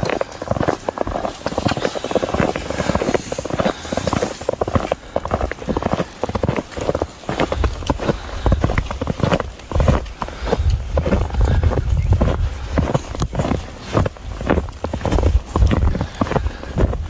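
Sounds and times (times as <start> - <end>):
footsteps crunching through snow: 0.0 - 17.0.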